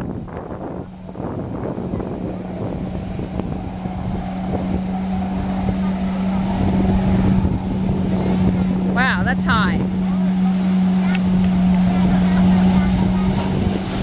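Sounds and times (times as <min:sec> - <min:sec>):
water jets spraying: 0:00.0 - 0:14.0
watercraft engine drone: 0:00.0 - 0:14.0.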